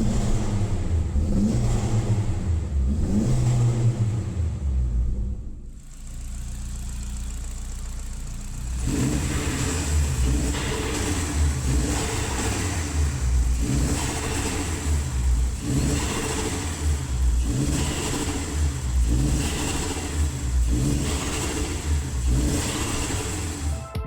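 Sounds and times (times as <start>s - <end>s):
car engine revving: 0.0s - 23.8s.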